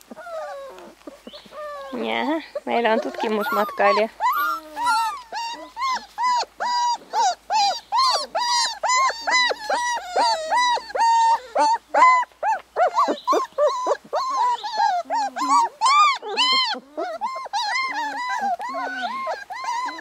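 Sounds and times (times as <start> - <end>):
puppy whining: 0.0 - 20.0.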